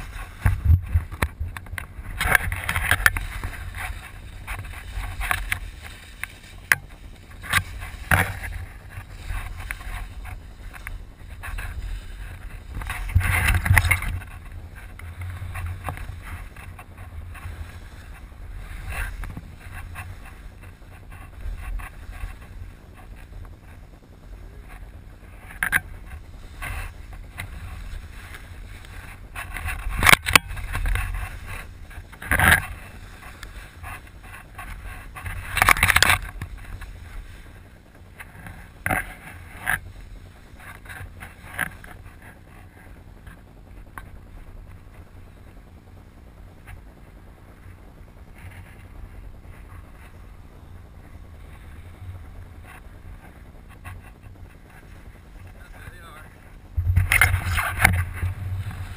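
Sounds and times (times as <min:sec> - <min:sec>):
snowboard scraping over snow: 0:00.0 - 0:58.9
wind rumbling on microphone: 0:00.0 - 0:58.9.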